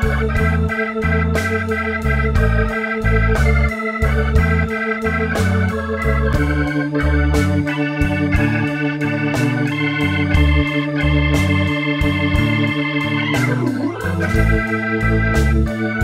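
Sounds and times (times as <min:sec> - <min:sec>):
blues organ chords: 0:00.0 - 0:16.0
drums steady beat: 0:00.0 - 0:16.0
stepping bass line: 0:00.0 - 0:16.0.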